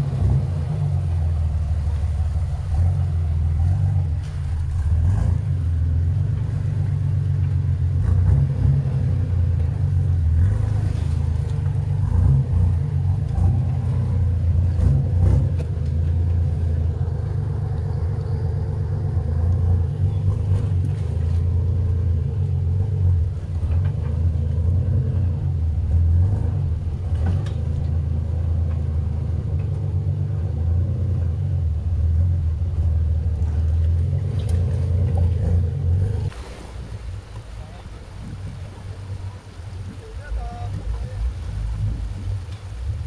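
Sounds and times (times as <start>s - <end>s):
truck engine rumbling: 0.0s - 43.0s.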